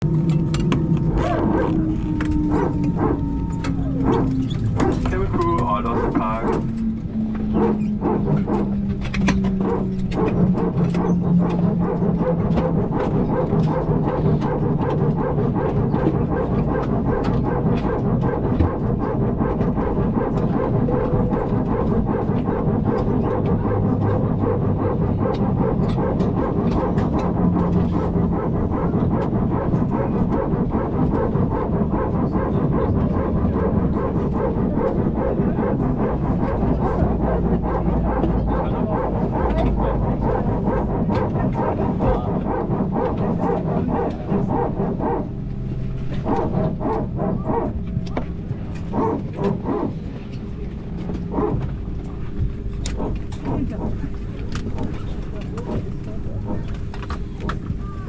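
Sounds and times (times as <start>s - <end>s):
rapid growling hydraulic pump bark: 0.0s - 58.0s
steady low hum: 0.0s - 58.0s.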